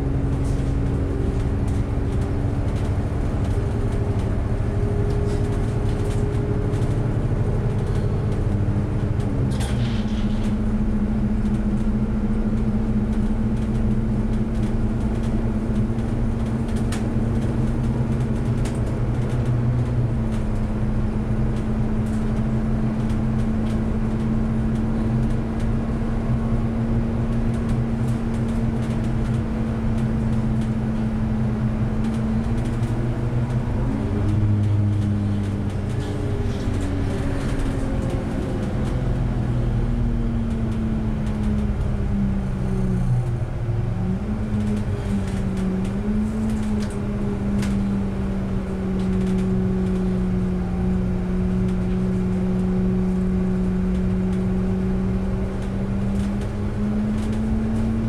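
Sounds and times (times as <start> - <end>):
bus engine drone: 0.0 - 58.0
tyre and road noise: 0.0 - 58.0.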